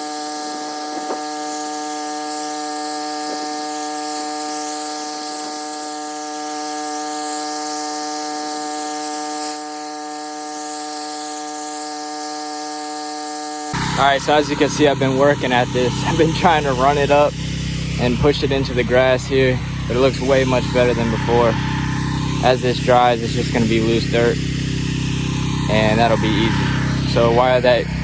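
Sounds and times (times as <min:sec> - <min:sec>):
pressure washer humming: 0:00.0 - 0:28.0.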